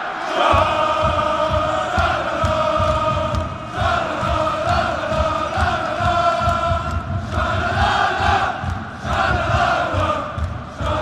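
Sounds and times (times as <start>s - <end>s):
crowd chanting in unison: 0.0s - 11.0s
steady low beat: 0.4s - 11.0s.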